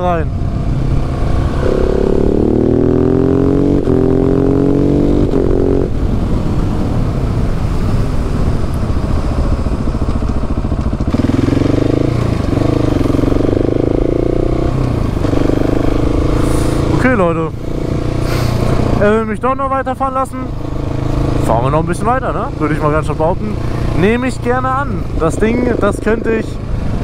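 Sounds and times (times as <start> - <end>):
motorcycle engine accelerating: 0.0 - 6.7, 7.8 - 19.3, 20.3 - 27.0.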